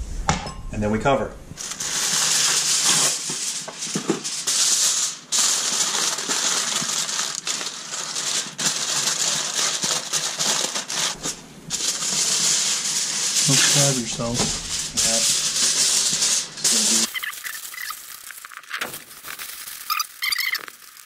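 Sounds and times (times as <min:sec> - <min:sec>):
aluminium foil crinkling: 0:01.6 - 0:21.0.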